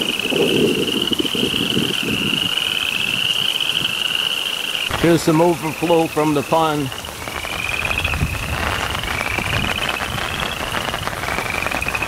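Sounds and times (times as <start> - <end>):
frogs trilling: 0.0 - 12.0
rain: 0.0 - 12.0
wind: 0.0 - 12.0.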